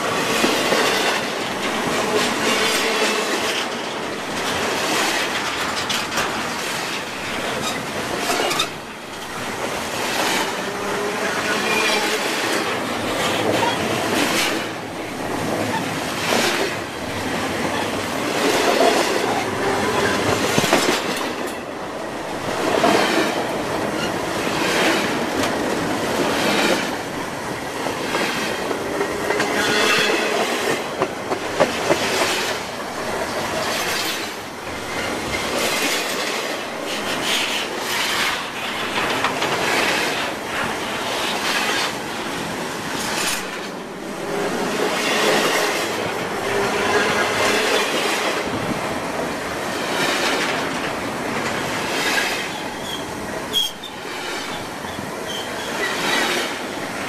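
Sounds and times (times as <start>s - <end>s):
train wheels rumbling and clattering: 0.0s - 57.0s.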